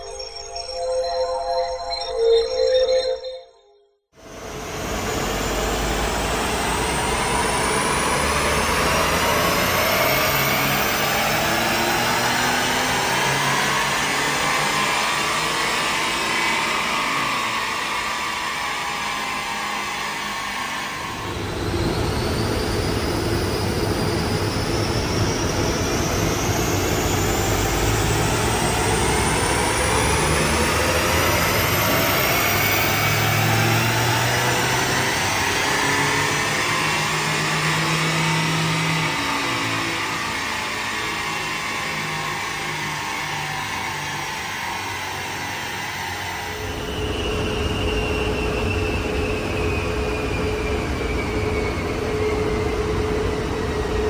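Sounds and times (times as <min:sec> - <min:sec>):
diesel engine pulling hard: 0:04.2 - 0:54.0
rising whine of dyno rollers: 0:04.2 - 0:54.0.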